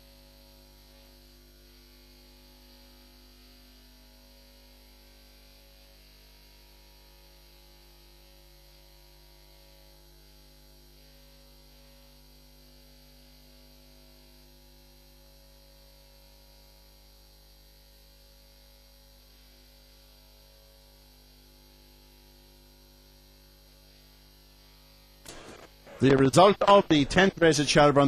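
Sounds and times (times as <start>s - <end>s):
faint mains hum: 0.0s - 28.0s.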